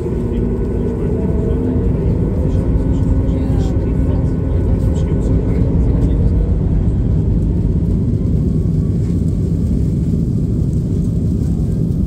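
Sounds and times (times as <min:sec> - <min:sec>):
jet engine rumble inside cabin: 0:00.0 - 0:12.0.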